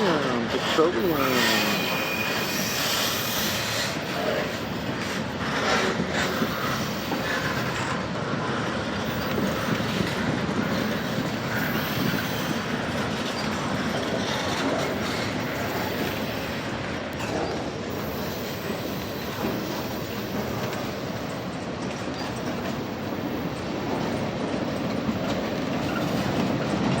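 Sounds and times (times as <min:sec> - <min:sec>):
steel wheels rolling on rails: 0:00.0 - 0:27.0.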